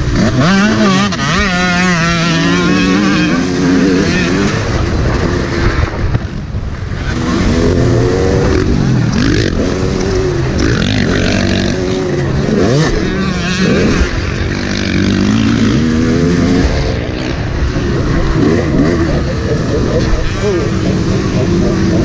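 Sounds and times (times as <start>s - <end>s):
motorbike engine revving: 0.0s - 22.0s
rushing wind: 0.0s - 22.0s.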